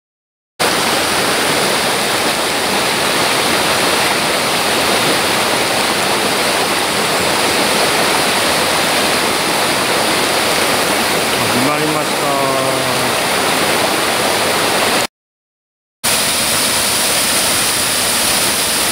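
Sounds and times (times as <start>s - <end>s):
stream rushing over rocks: 0.6s - 15.1s, 16.1s - 18.9s.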